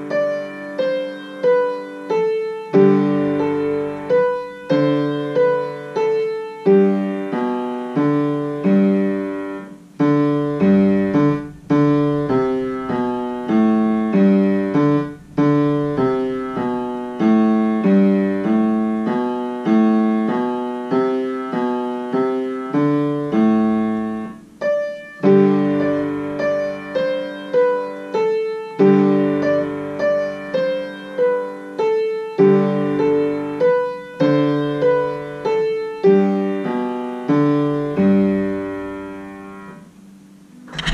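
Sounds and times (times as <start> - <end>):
slow solo piano piece: 0.0 - 40.9.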